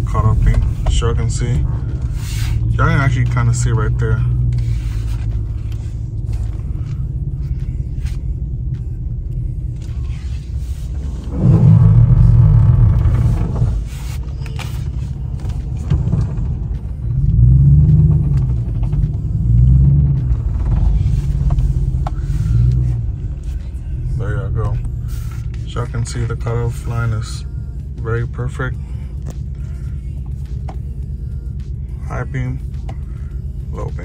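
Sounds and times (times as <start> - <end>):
car engine rumble inside cabin: 0.0 - 34.0.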